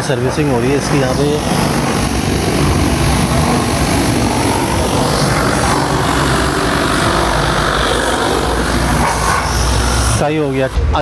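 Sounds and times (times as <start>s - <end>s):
pressure washer spraying: 0.0s - 10.3s.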